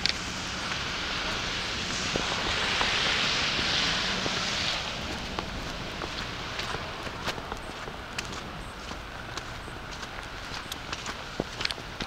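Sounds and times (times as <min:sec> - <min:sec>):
passing vehicle hiss: 0:00.0 - 0:09.9.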